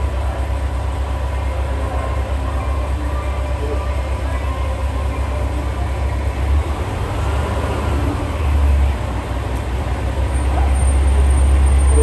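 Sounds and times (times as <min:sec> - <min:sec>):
diesel railcar rumbling: 0:00.0 - 0:12.0.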